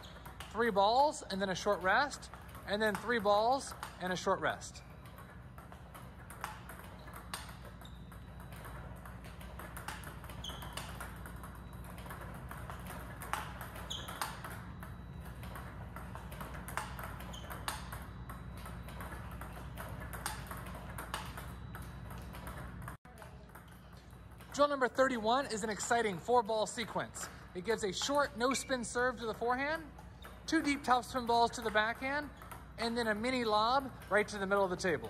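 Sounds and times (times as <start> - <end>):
ping pong ball hits: 0.0 - 35.0.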